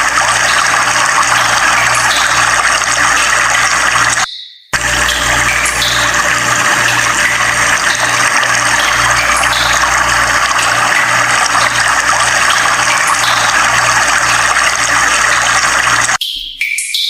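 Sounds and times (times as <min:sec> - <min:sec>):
water rushing: 0:00.0 - 0:04.2, 0:04.8 - 0:16.2.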